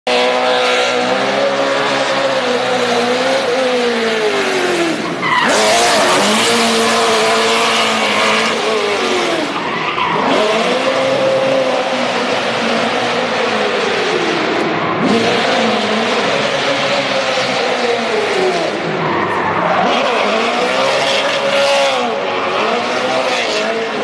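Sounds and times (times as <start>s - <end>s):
car engine revving hard: 0.1s - 24.0s.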